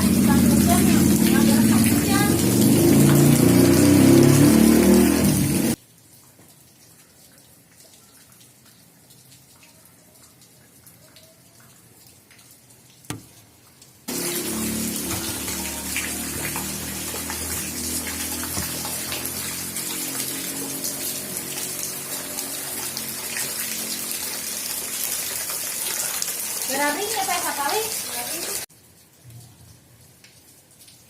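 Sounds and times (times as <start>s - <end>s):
rainwater rushing and splashing: 0.0s - 31.0s.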